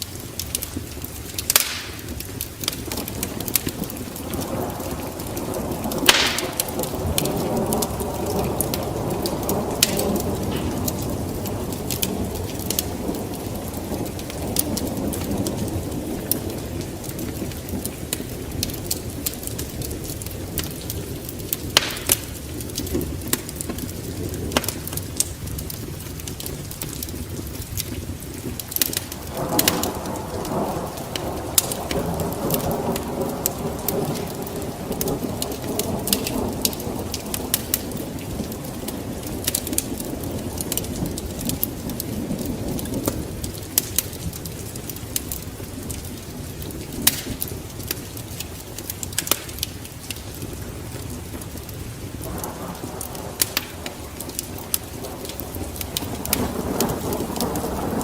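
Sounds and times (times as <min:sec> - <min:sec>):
steady rain: 0:00.0 - 0:58.0
wood fire crackling: 0:00.0 - 0:58.0
thunder rumbling: 0:00.2 - 0:58.0.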